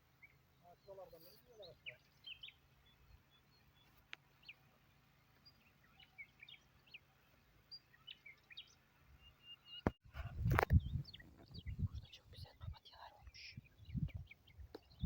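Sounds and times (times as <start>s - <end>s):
bird chirps: 0.1s - 15.0s.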